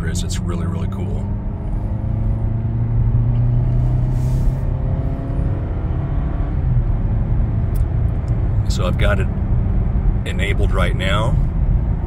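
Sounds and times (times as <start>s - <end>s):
car engine accelerating: 0.0s - 12.0s
road and tyre noise: 0.0s - 12.0s.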